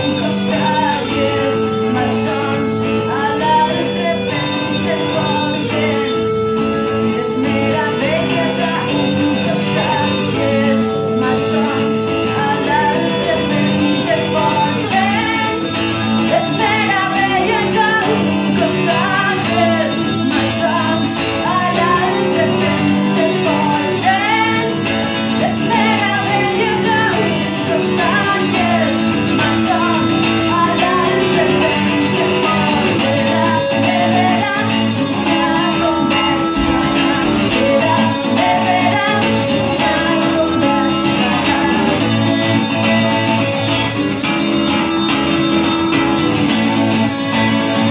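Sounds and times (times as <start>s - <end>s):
electric guitars playing: 0.0s - 47.9s
woman singing: 0.0s - 47.9s.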